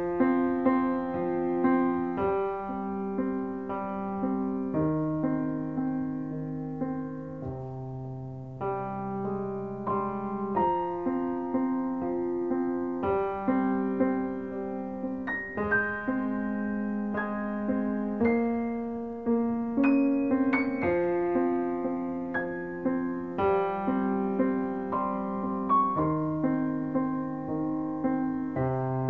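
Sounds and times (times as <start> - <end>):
slow gentle piano piece: 0.0 - 29.0.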